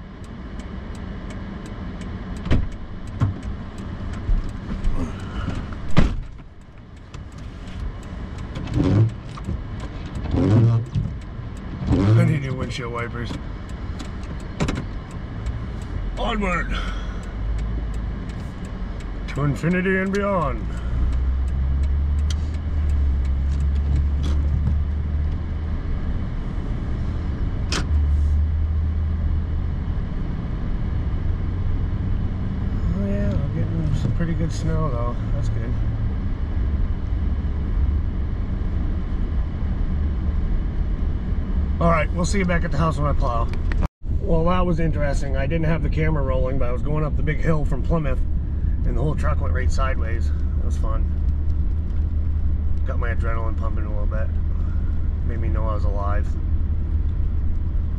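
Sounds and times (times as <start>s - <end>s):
truck engine and road rumble: 0.0s - 57.9s.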